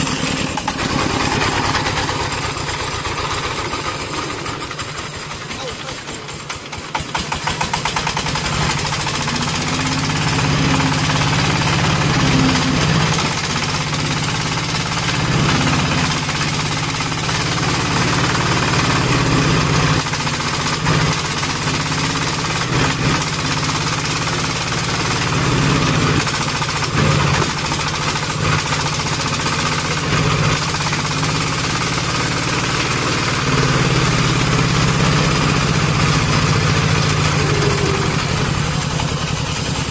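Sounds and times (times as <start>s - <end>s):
diesel engine knocking chug: 0.0s - 39.9s.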